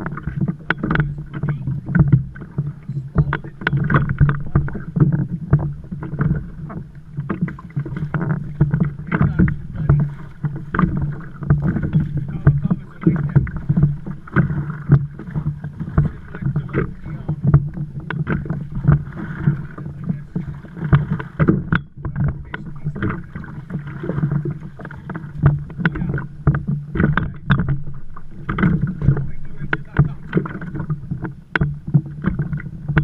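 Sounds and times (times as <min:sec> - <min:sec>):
steady low hum: 0:00.0 - 0:33.0
water splashing against kayak hull: 0:00.0 - 0:33.0.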